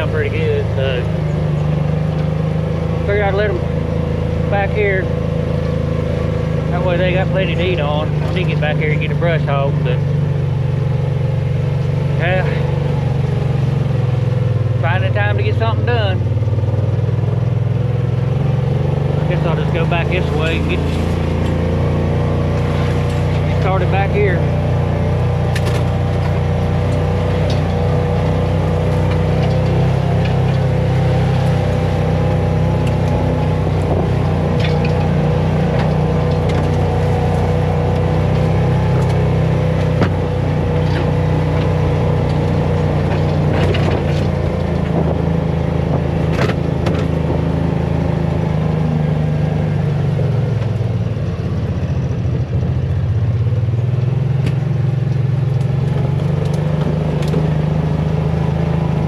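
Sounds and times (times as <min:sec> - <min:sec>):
farm vehicle engine running: 0:00.0 - 0:59.0.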